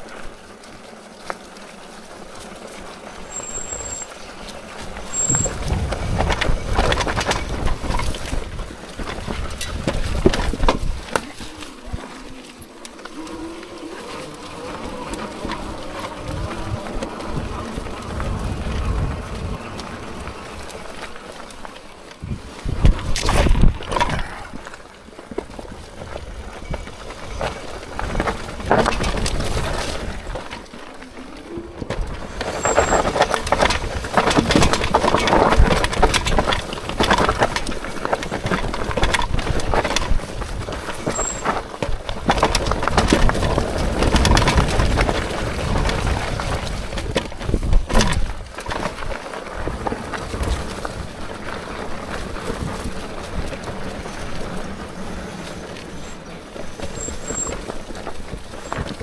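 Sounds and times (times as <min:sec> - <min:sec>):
bike tyres rumbling on rough ground: 0:00.0 - 0:59.0.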